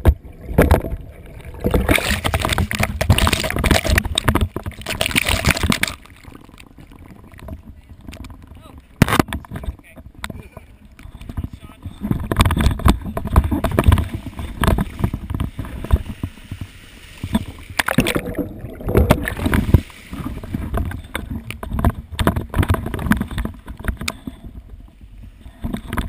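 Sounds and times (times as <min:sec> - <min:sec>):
sea water splashing and rushing: 0:00.0 - 0:26.0.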